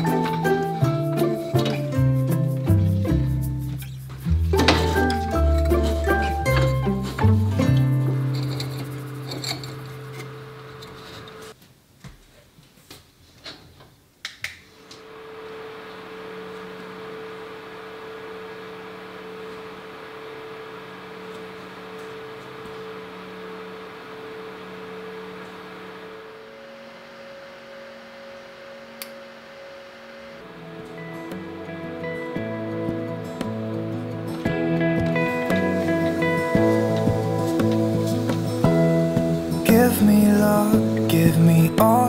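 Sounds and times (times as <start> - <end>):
desk fan humming: 0.0 - 11.6, 14.7 - 42.0.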